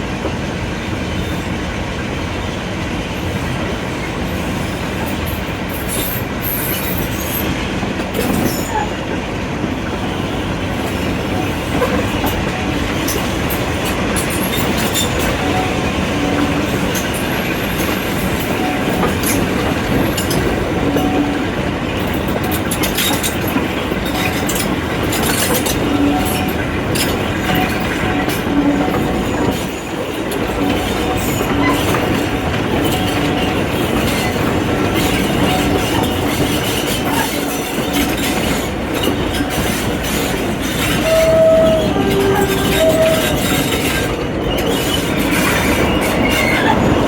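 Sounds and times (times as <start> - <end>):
train rail noise: 0.0 - 47.0.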